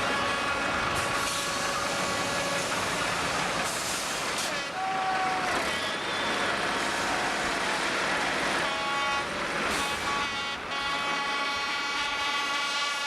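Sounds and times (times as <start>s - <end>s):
tractor engines at high power: 0.0s - 12.7s.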